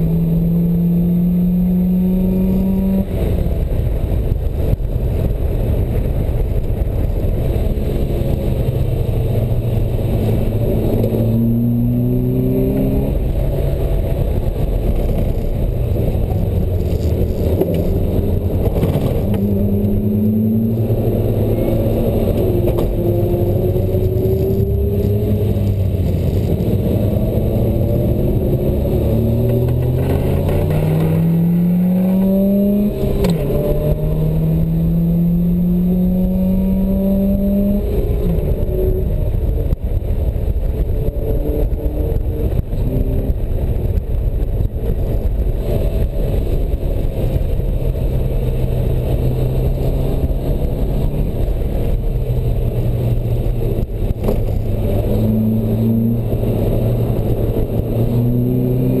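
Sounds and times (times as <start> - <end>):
sports car engine revving: 0.0 - 3.8, 7.1 - 43.8, 44.6 - 59.0.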